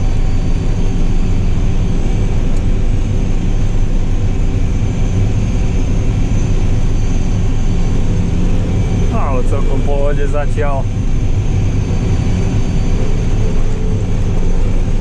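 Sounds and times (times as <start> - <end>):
tractor diesel engine drone: 0.0 - 15.0.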